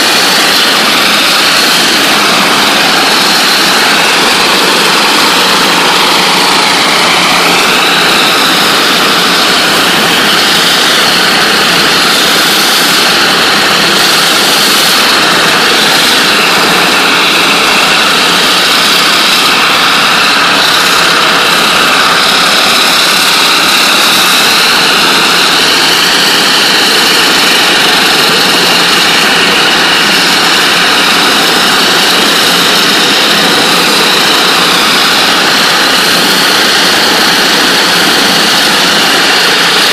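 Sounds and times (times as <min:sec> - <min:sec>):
water jet hissing rush: 0:00.0 - 0:39.9.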